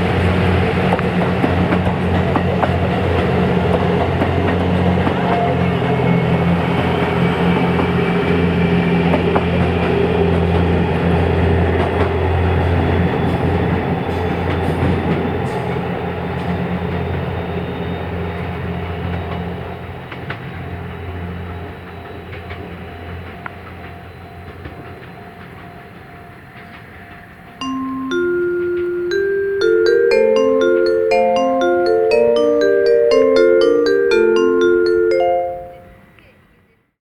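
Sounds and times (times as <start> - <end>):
train engine drone: 0.0 - 35.3.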